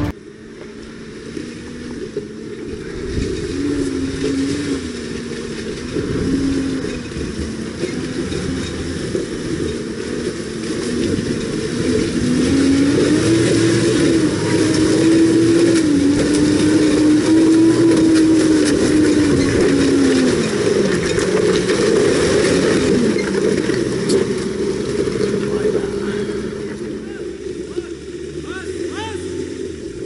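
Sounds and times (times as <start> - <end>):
pickup engine pulling under load: 0.0 - 30.0.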